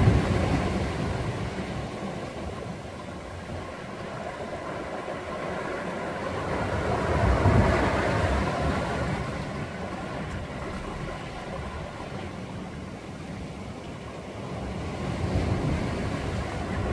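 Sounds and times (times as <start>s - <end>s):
waves breaking on rocks: 0.0s - 16.9s.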